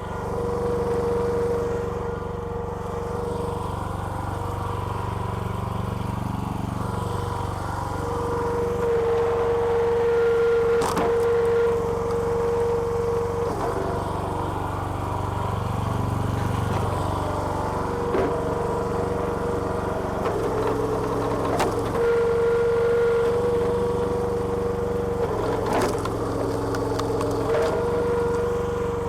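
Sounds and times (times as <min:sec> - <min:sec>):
small petrol engine running: 0:00.0 - 0:29.0.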